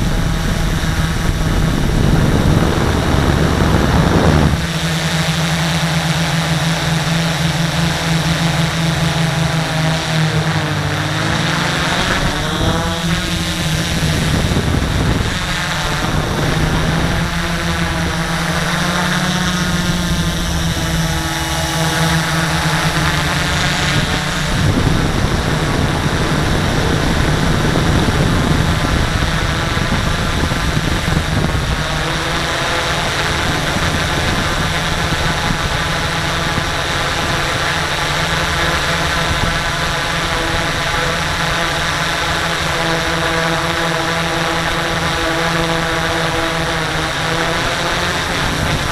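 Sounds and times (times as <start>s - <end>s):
drone propellers whirring: 0.0s - 48.9s.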